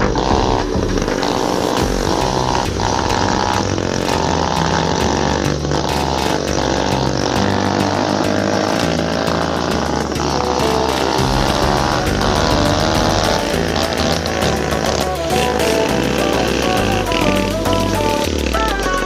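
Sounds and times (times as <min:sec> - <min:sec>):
two-stroke scooter engines running: 0:00.0 - 0:19.0.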